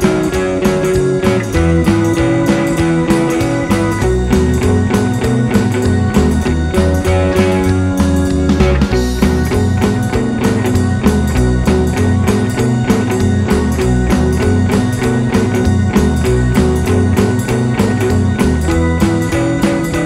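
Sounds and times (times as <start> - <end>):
guitar: 0.0 - 20.0
moving bass line: 0.0 - 20.0
steady drum beat: 0.0 - 20.0.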